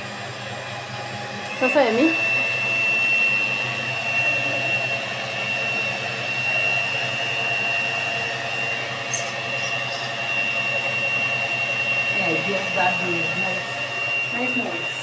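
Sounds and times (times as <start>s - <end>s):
electric mixer whining: 0.0s - 15.0s.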